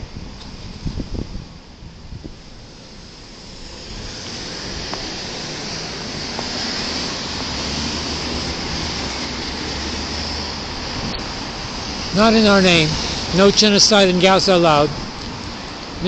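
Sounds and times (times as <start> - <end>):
car traffic passing: 0.0 - 16.0.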